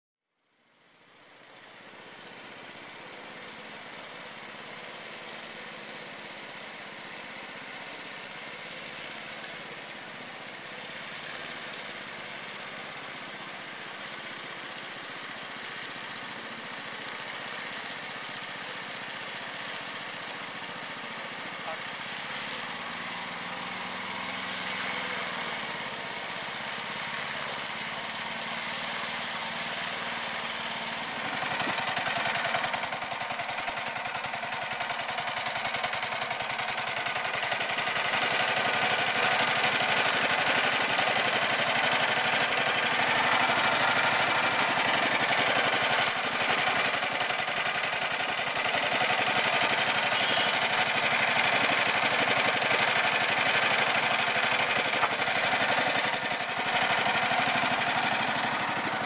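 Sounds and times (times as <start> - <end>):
small petrol engine running: 1.3 - 59.0.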